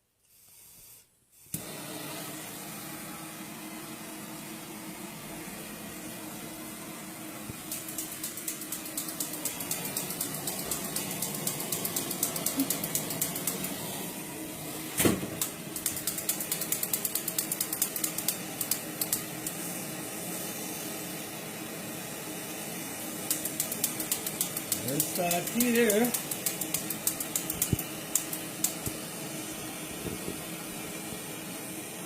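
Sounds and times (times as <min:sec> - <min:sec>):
torch flame hissing: 0:00.2 - 0:32.0.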